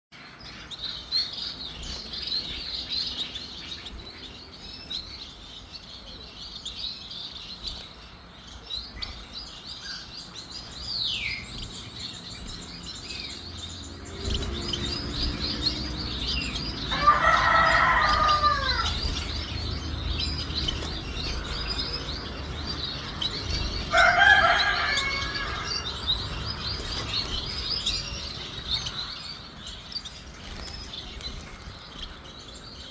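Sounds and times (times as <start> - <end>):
finches twittering: 0.4 - 32.9.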